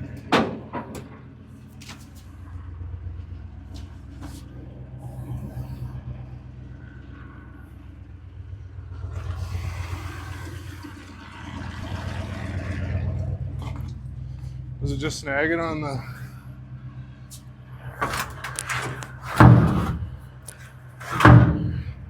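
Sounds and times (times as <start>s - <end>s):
pickup truck engine rumbling: 0.0s - 22.0s.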